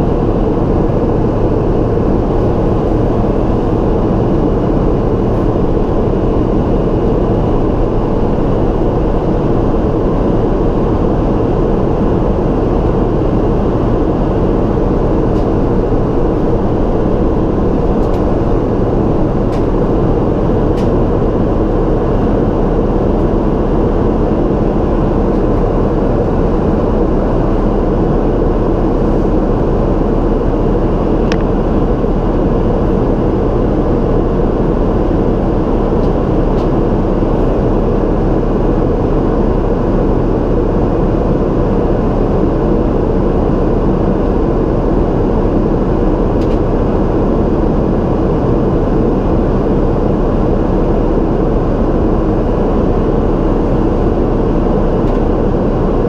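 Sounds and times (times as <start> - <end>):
jet engine rumble: 0.0 - 56.0.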